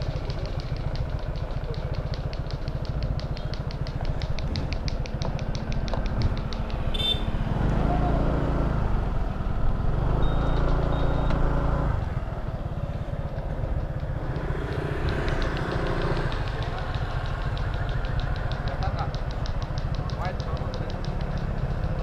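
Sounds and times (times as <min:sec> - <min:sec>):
motor scooter engine: 0:00.0 - 0:22.0.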